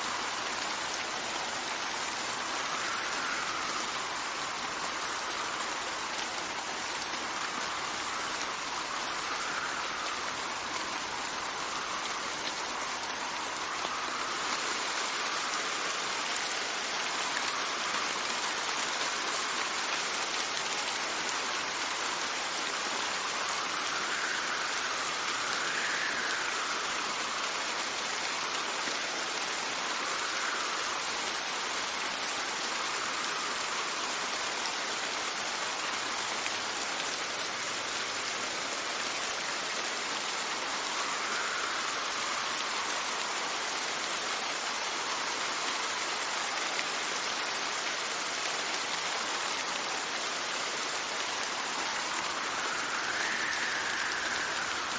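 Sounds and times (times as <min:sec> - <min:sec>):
steady rain: 0:00.0 - 0:54.9
wind gusts: 0:00.0 - 0:54.9.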